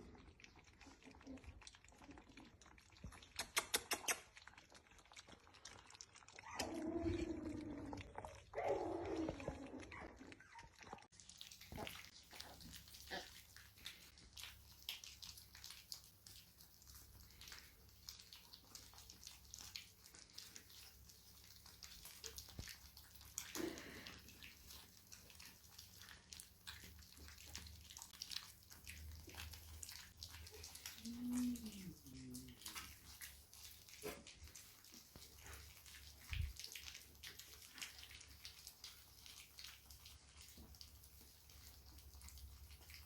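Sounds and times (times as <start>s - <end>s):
dog eating wet smacks: 0.0s - 43.0s.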